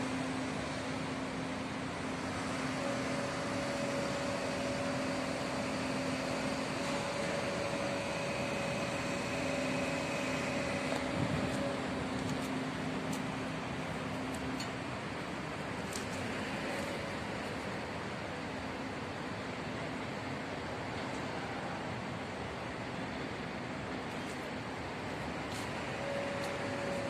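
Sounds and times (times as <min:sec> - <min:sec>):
construction machinery din: 0:00.0 - 0:27.0
machinery hums: 0:00.0 - 0:27.0.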